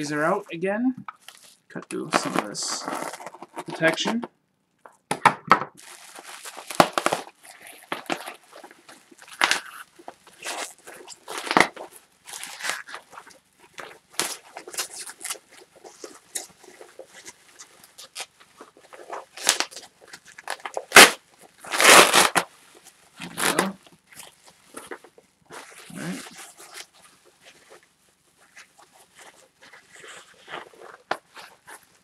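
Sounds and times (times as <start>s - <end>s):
bubble wrap crinkling and tearing: 0.0s - 0.4s, 1.1s - 4.1s, 5.8s - 32.0s
knife cutting bubble wrap: 5.8s - 32.0s.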